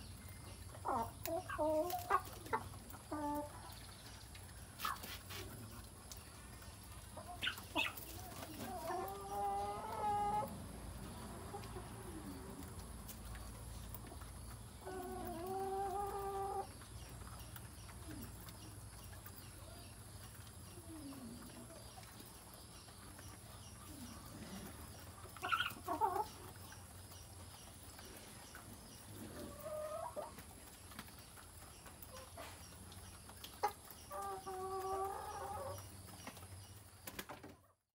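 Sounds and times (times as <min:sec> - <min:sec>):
chickens clucking: 0:00.0 - 0:37.8.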